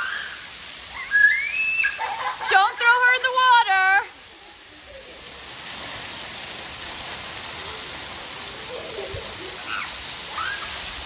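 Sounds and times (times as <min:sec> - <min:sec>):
rushing water splashing: 0:00.0 - 0:11.0.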